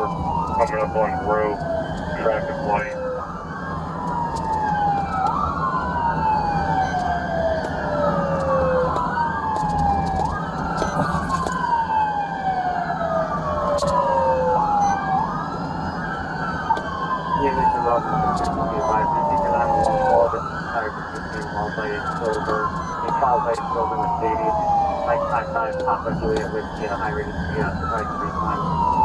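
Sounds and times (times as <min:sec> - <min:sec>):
engine and road noise: 0:00.0 - 0:29.0
police sirens wailing: 0:00.0 - 0:29.0.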